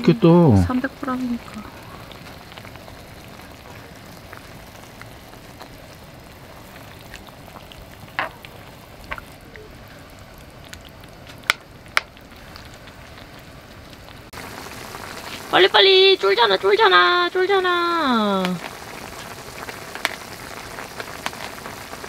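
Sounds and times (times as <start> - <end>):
stew bubbling and sizzling: 0.0 - 22.0.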